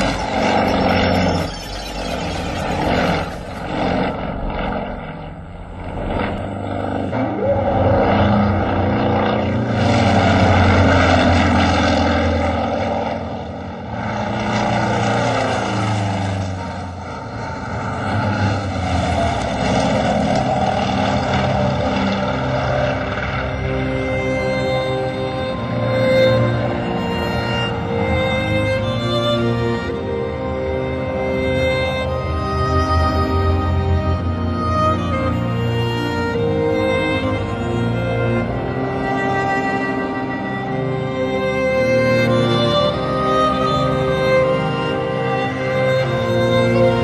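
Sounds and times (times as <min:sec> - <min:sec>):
propeller planes droning past: 0:00.0 - 0:47.0.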